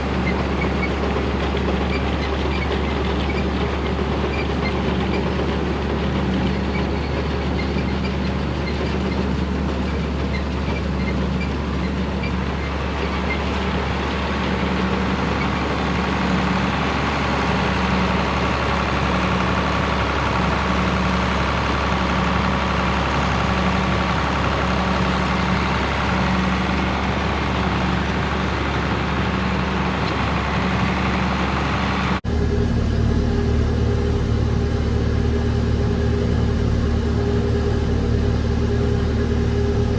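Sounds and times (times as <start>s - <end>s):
hay machinery pulsing: 0.0s - 39.9s
tractor engine rumbling: 0.0s - 39.9s.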